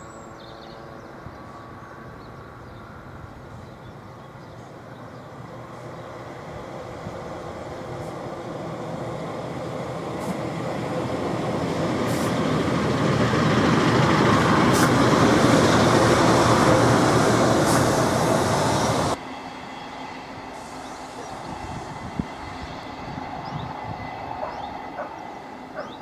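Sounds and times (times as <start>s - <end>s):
diesel railbus passing: 0.0s - 26.0s
distant diesel train hum: 0.0s - 26.0s.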